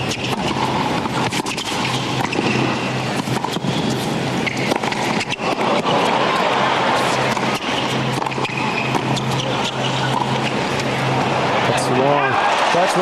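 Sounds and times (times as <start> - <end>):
racquets striking tennis ball: 0.0 - 11.4
stadium background hum: 0.0 - 13.0.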